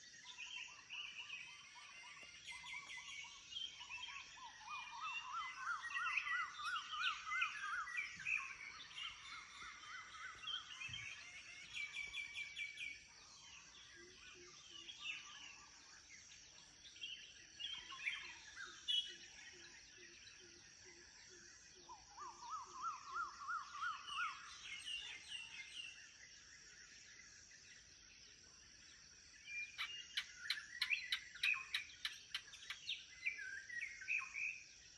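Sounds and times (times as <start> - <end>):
birds calling and chirping: 0.0 - 27.9, 28.8 - 34.9.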